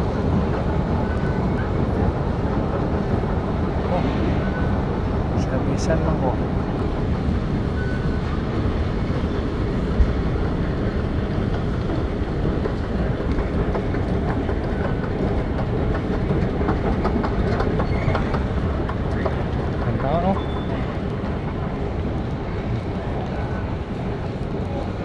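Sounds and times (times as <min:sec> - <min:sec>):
low rumble of station: 0:00.0 - 0:25.0.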